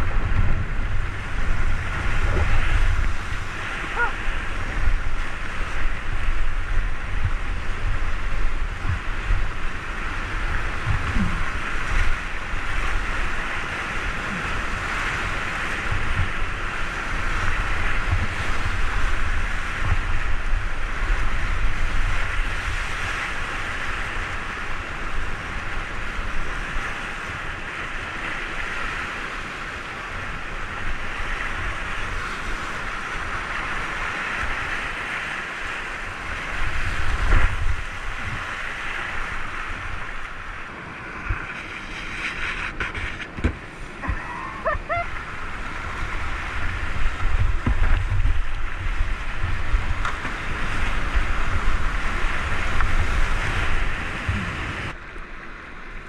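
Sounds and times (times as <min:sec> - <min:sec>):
whitewater rushing: 0:00.0 - 0:55.1
wind buffeting microphone: 0:00.0 - 0:56.0.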